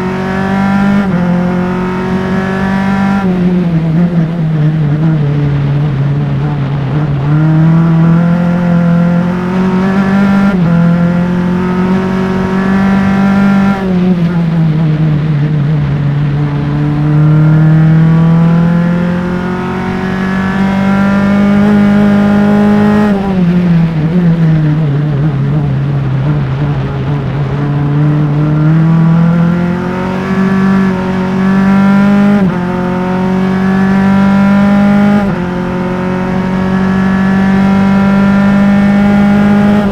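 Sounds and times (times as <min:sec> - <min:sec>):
engine downshifting while braking: 0:00.0 - 0:39.9
race car engine upshifting: 0:00.0 - 0:39.9.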